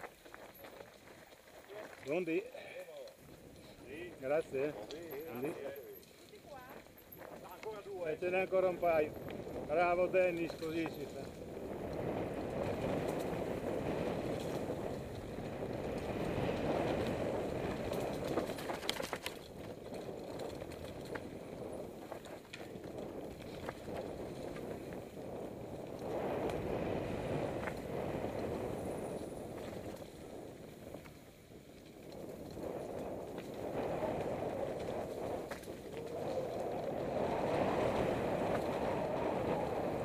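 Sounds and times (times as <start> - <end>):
bike tyres rattling over stones: 0.0 - 40.0.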